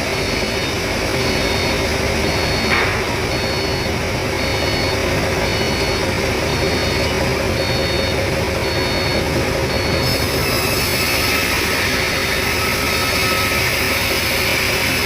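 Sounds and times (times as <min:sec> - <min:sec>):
forklift engine running: 0:00.0 - 0:15.0
reversing alarm beeping: 0:00.0 - 0:15.0.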